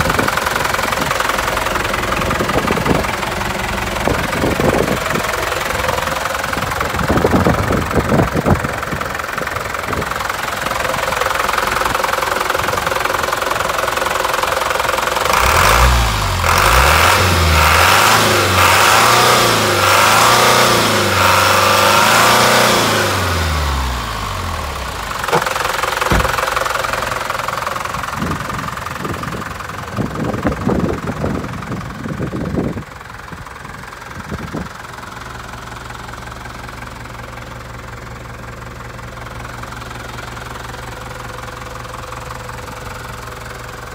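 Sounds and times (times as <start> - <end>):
diesel engine knocking clatter: 0.0 - 43.9.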